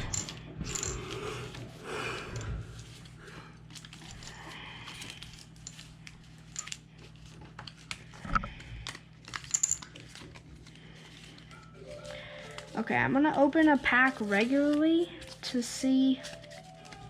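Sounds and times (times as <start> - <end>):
cards tapping and rustling: 2.3 - 11.5, 12.1 - 17.0.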